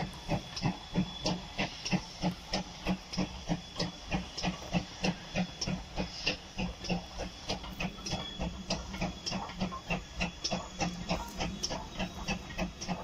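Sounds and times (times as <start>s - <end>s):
steam locomotive exhaust chuffing: 0.0s - 13.0s.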